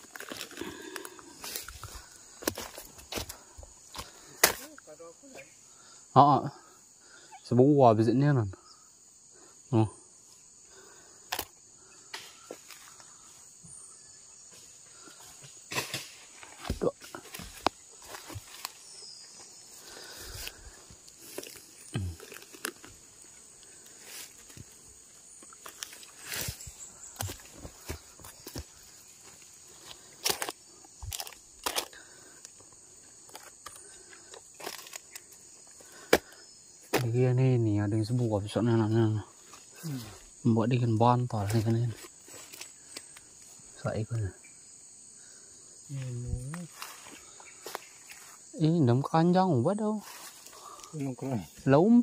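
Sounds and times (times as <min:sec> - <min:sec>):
insects buzzing: 0:00.0 - 0:52.0.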